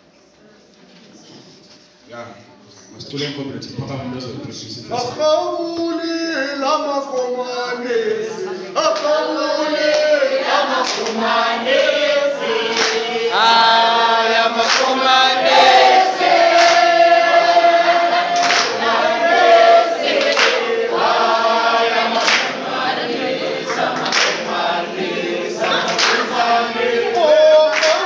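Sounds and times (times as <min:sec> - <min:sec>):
crowd singing unaccompanied: 0:05.5 - 0:28.0.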